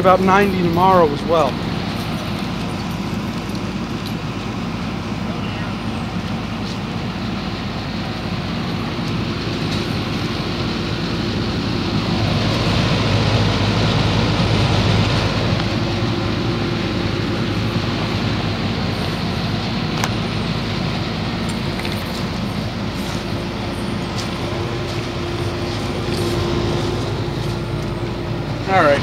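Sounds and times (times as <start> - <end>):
compressor hum: 0.0 - 29.0
condenser fan rushing: 0.0 - 29.0.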